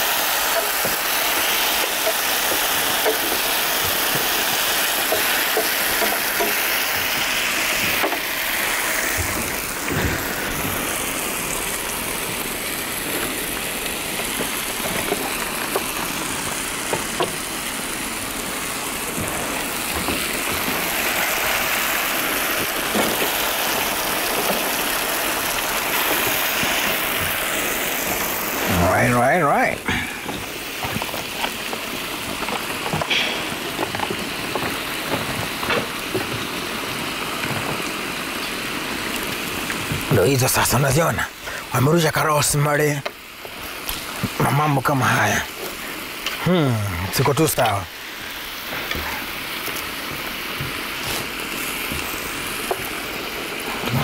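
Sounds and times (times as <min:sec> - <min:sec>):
chicken sizzling in pan: 0:00.0 - 0:54.0.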